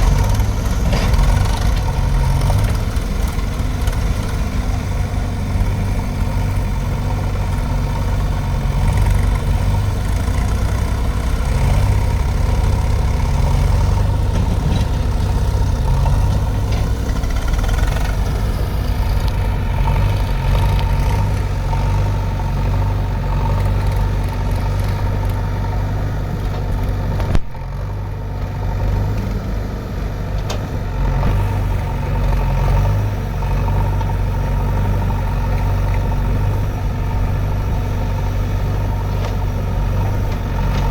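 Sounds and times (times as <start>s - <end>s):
diesel engine throbbing: 0.0s - 40.9s.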